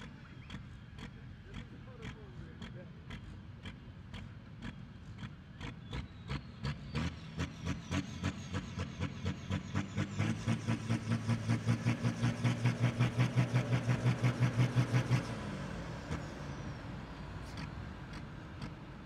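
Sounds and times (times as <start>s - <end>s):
tractor diesel engine revving: 0.0s - 19.0s.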